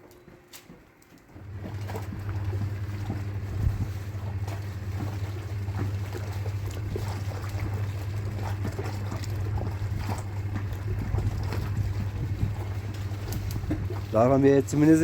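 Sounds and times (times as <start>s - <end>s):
washing machine motor hum: 0.0s - 15.0s
water sloshing in drum: 0.0s - 15.0s.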